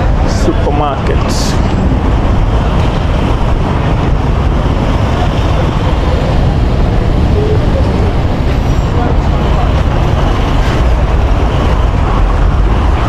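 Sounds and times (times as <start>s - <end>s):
road traffic rumble: 0.0s - 13.0s
wind buffeting microphone: 0.0s - 13.0s.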